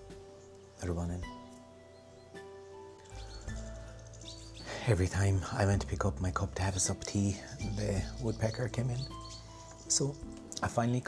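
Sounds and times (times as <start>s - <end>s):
background music of held notes: 0.0s - 11.0s.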